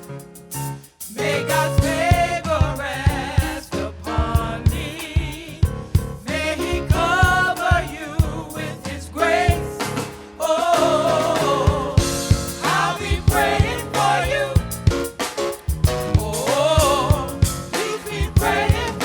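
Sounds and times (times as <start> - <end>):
bass: 0.0 - 19.0
steady drum beat: 0.0 - 19.0
gospel singing: 1.0 - 19.0.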